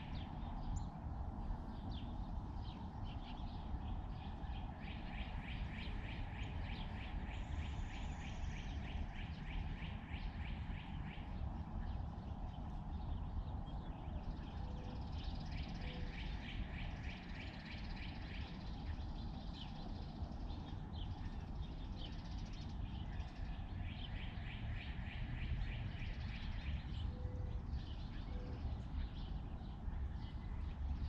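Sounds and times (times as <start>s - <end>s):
songbirds calling: 0.0s - 31.0s.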